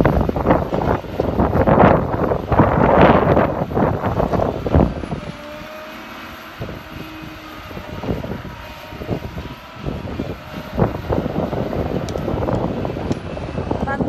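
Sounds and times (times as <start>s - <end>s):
harvester engine and hydraulics droning: 0.0s - 14.0s
wind buffeting microphone: 0.0s - 14.0s.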